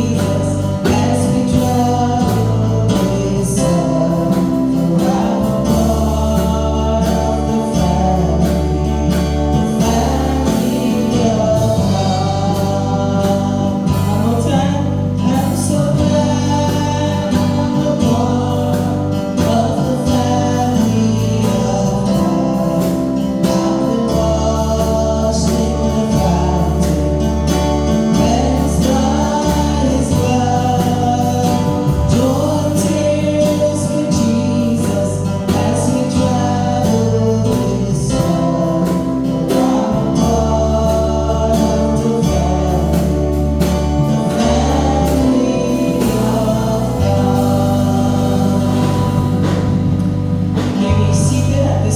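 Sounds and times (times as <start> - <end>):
group singing gospel music: 0.0 - 51.9
steady bass line: 0.0 - 51.9.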